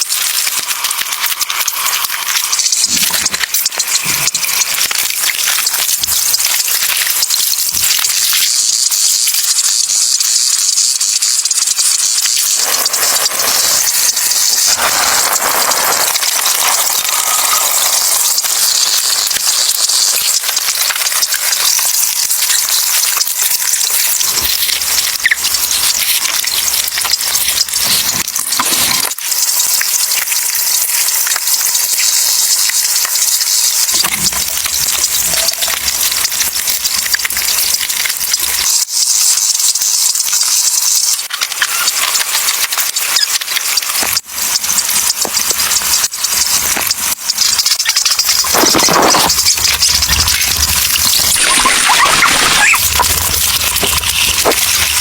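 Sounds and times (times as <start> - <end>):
crackling hiss with pops: 0.0 - 55.0.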